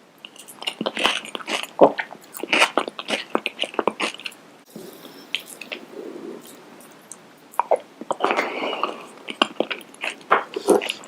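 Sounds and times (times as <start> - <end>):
person chewing: 0.2 - 11.0.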